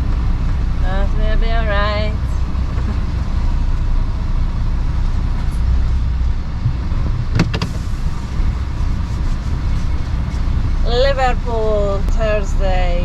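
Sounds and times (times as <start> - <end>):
lorry engine rumbling: 0.0 - 13.0.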